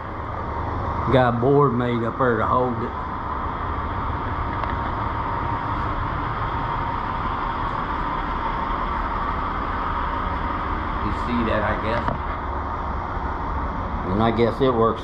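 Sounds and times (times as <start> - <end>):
faint steady whine: 0.0 - 15.0
machinery low rumble: 0.0 - 15.0.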